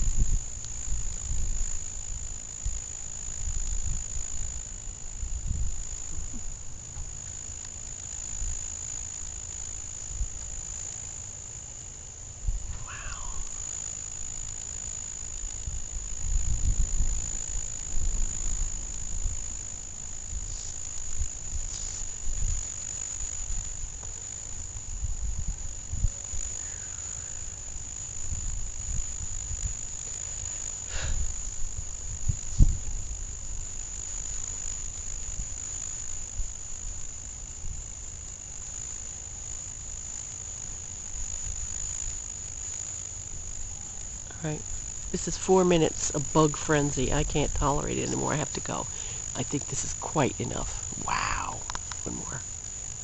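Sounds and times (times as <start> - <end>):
insect chorus drone: 0.0 - 53.0.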